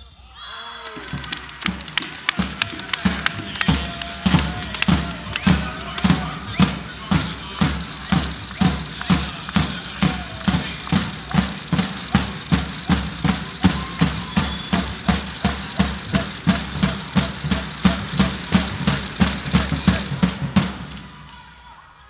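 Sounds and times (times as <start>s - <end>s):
crowd noise: 0.0s - 22.0s
drum beating steadily: 1.1s - 21.1s.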